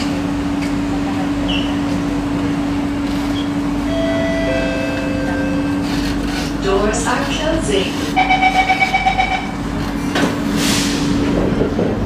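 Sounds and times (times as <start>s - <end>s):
electric train low hum: 0.0s - 12.0s.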